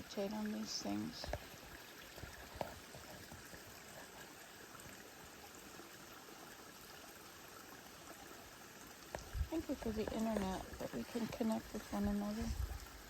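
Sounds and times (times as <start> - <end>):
faint waterfall rush: 0.0 - 13.0.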